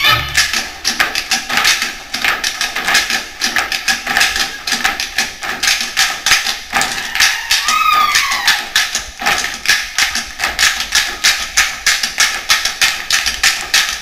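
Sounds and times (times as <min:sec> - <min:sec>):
sharp percussive claps: 0:00.0 - 0:14.0.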